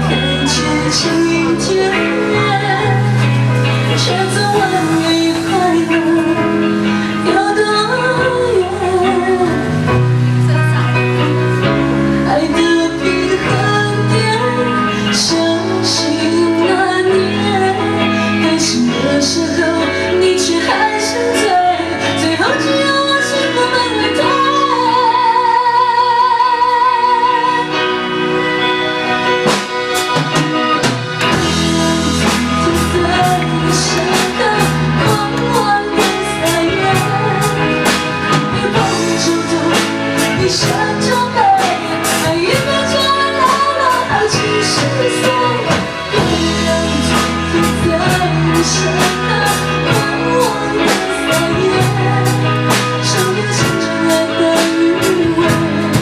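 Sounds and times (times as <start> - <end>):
live band playing a ballad: 0.0 - 56.0.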